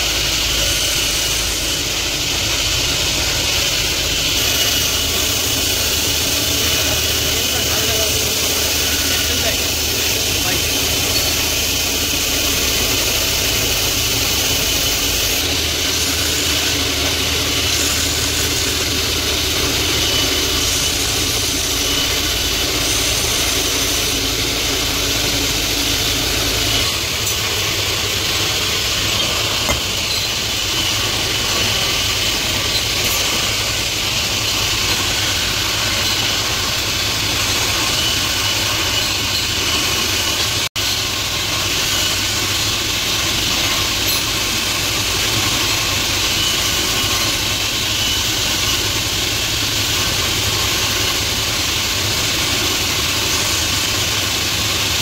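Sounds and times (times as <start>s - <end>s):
bench grinder motor running: 0.0s - 55.0s.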